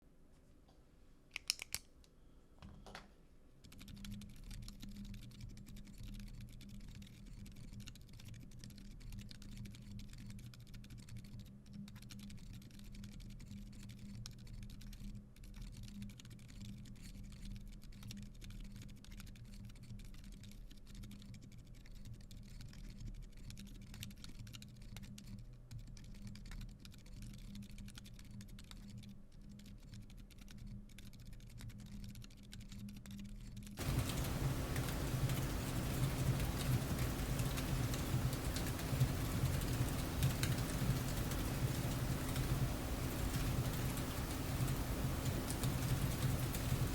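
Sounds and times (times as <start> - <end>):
damped keyboard keystrokes: 1.3 - 1.9, 3.6 - 46.9.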